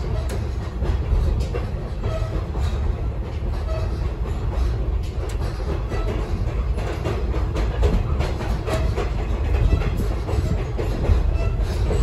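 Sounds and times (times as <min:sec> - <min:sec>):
railcar rumbling on rails: 0:00.0 - 0:12.0
wheel and car body rattles: 0:00.0 - 0:12.0.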